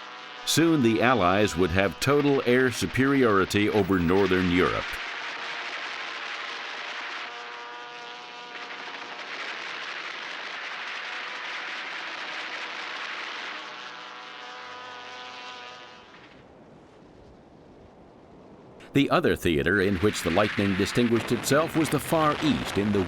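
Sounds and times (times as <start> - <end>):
piston aircraft engines droning: 0.0 - 17.3, 18.8 - 23.0.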